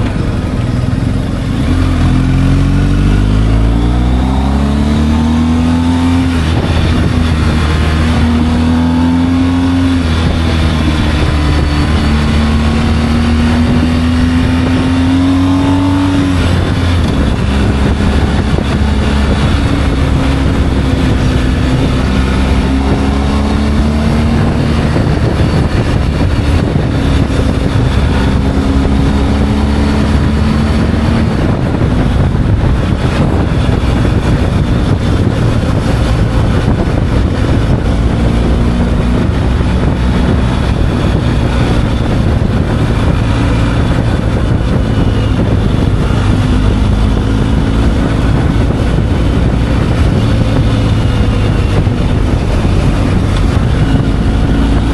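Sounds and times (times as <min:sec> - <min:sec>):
motorcycle engine running: 0:00.0 - 0:54.9
steady rushing noise: 0:00.0 - 0:54.9.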